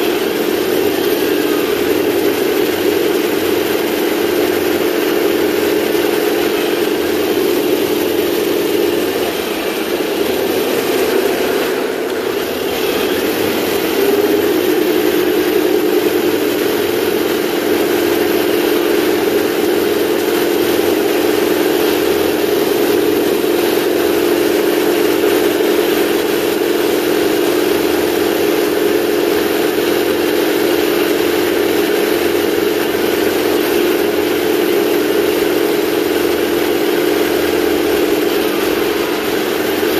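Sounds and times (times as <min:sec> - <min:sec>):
simulated tank engine drone: 0:00.0 - 0:39.9.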